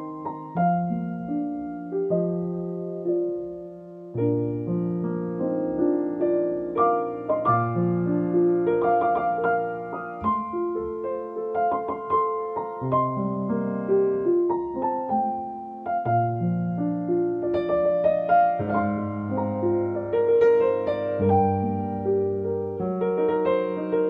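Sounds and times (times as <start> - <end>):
solo piano playing: 0.0 - 24.0.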